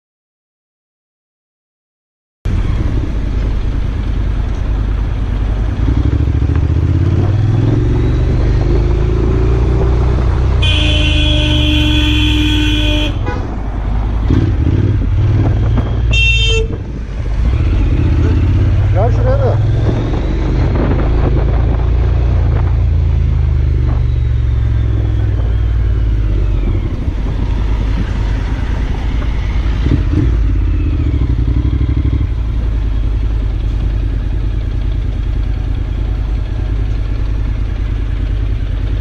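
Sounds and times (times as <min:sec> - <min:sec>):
motorcycle engine running: 0:02.5 - 0:13.4, 0:14.0 - 0:39.0.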